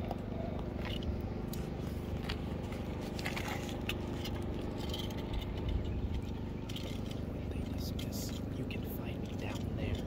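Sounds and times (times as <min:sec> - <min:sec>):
faint steady hum: 0:00.0 - 0:10.0
low uneven rumble: 0:00.0 - 0:10.0
small clicks and rattles: 0:00.8 - 0:10.0.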